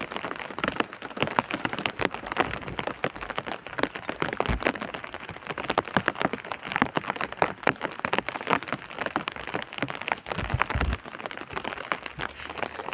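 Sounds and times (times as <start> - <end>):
raindrops pattering on hard surface: 0.0 - 12.9.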